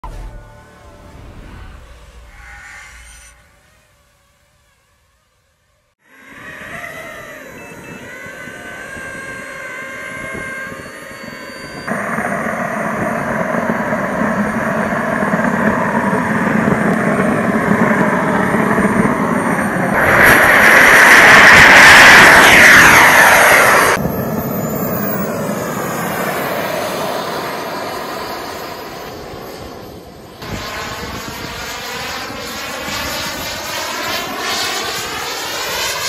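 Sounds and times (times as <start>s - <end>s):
rushing exhaust: 0.0s - 31.8s
jet turbine whining: 0.0s - 36.0s.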